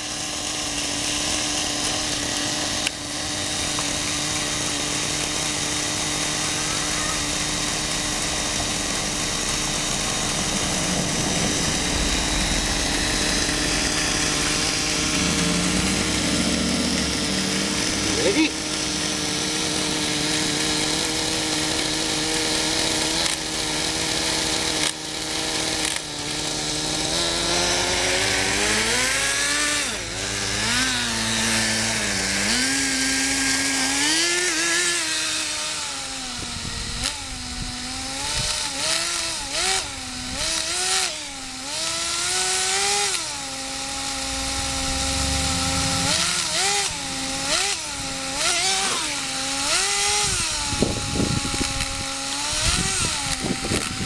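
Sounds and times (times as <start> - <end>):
small nitro engine revving: 0.0 - 54.0.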